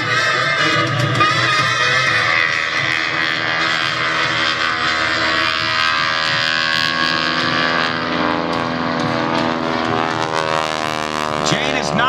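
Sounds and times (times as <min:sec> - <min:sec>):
biplane engine and propeller: 0:00.0 - 0:12.0.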